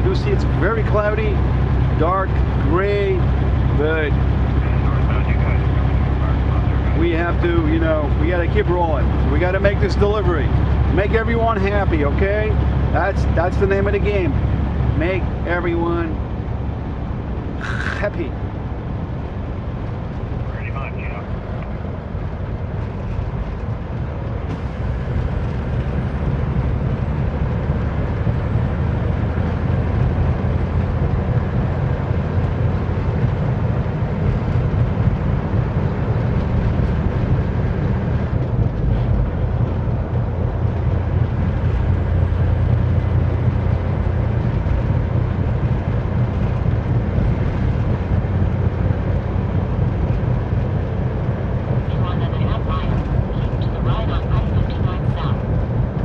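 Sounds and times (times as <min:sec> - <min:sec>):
diesel truck engine drone: 0:00.0 - 0:56.0
road noise: 0:00.0 - 0:56.0.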